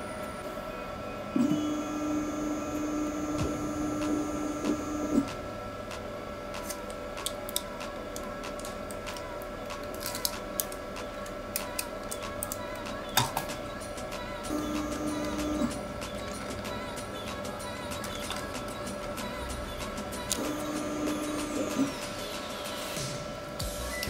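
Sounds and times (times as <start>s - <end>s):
motor whine: 0.0s - 9.6s, 13.7s - 24.0s
faint steady hum: 0.0s - 24.0s.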